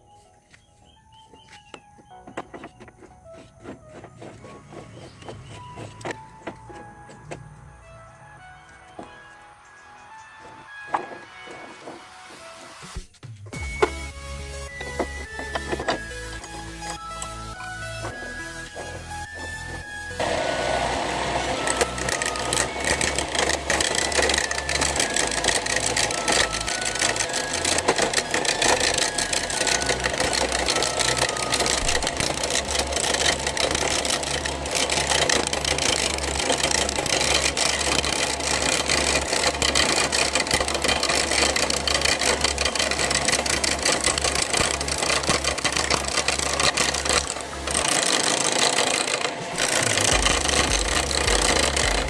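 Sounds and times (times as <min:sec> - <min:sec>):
turning tool scraping wood: 0:01.2 - 0:07.5, 0:10.1 - 0:52.0
lathe motor hum: 0:02.2 - 0:13.0, 0:13.6 - 0:52.0.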